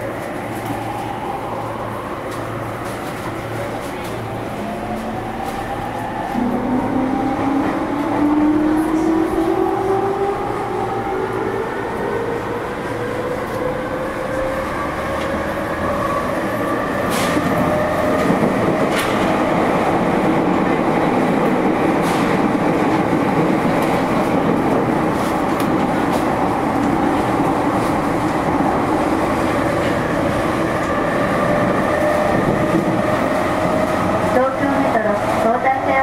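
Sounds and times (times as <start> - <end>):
train wheels and motors rumbling: 0.0 - 36.0.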